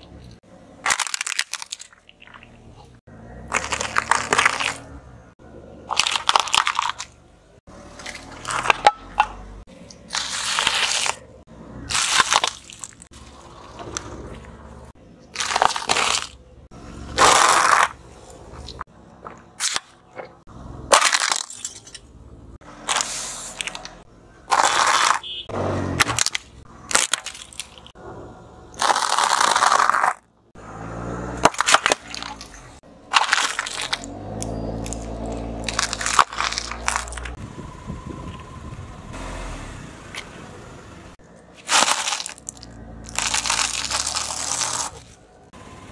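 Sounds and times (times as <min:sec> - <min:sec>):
objects crunching under car tyre: 0:00.0 - 0:28.0, 0:28.7 - 0:37.5, 0:41.1 - 0:45.9.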